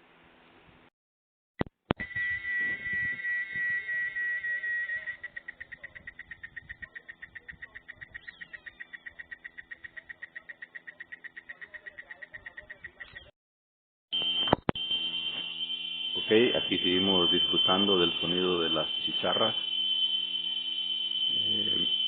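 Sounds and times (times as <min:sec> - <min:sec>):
cicada buzzing: 0:02.0 - 0:13.0, 0:14.2 - 0:22.0.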